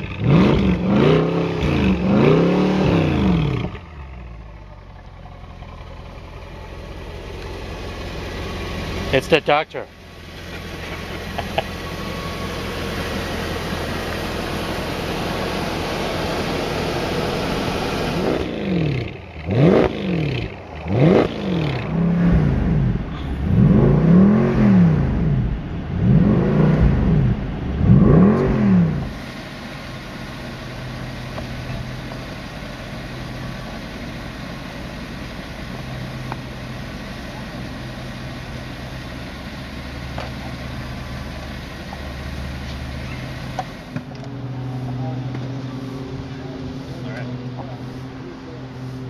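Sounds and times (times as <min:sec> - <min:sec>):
car engine revving and idling: 0:00.0 - 0:49.0.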